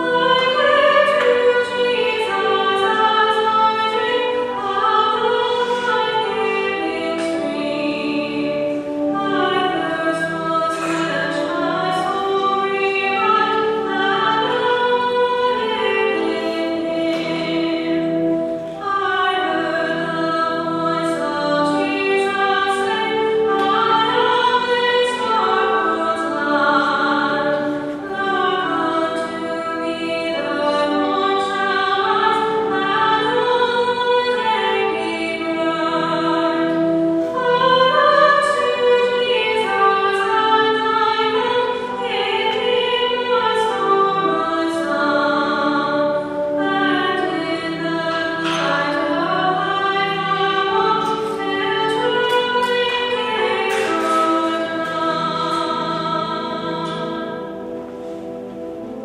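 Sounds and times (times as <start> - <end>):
hymn sung in long notes: 0.0 - 59.0.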